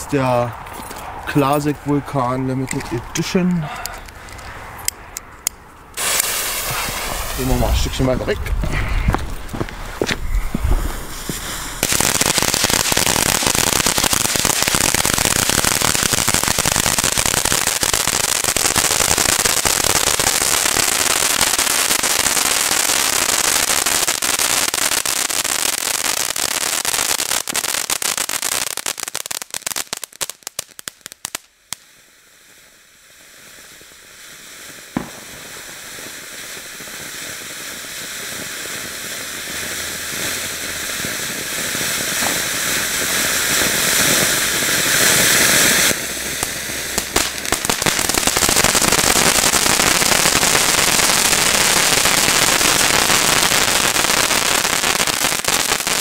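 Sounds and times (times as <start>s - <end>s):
firework fountain crackling: 0.0s - 56.0s
firework hissing spray: 6.0s - 56.0s.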